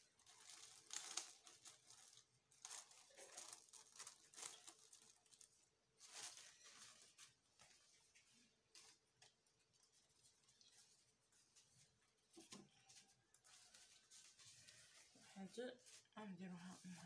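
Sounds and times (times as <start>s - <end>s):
pastry sheets rustling and crinkling: 0.0s - 17.0s.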